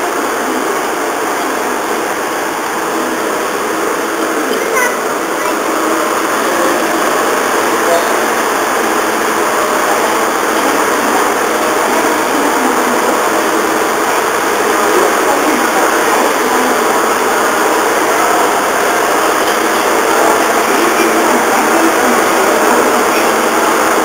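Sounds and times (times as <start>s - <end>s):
idling train engine: 0.0s - 24.0s.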